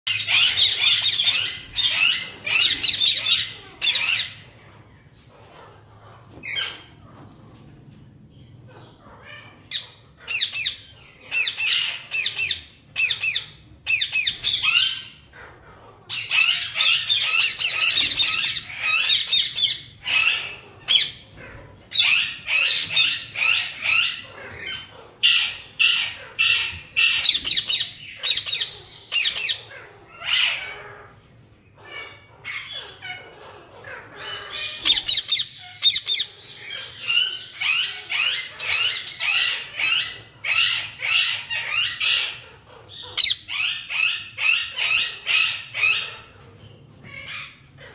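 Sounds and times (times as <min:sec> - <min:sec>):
parakeets squawking: 0:00.1 - 0:07.0, 0:08.7 - 0:47.9.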